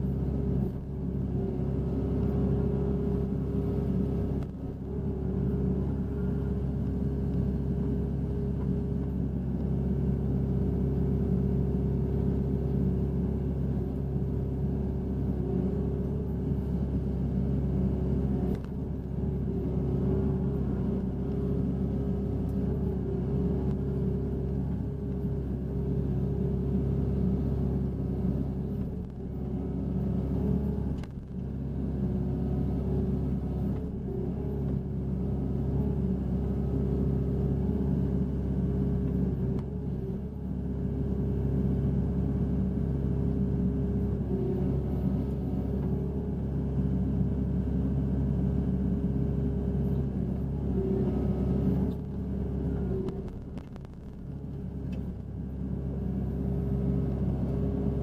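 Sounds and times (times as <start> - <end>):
excavator diesel engine droning: 0.0 - 58.0.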